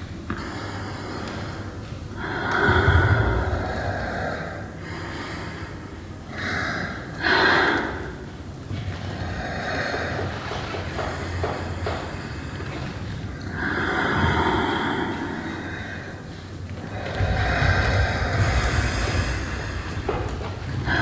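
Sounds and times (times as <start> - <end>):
heavy breathing: 0.0 - 21.0
low steady hum: 0.0 - 21.0.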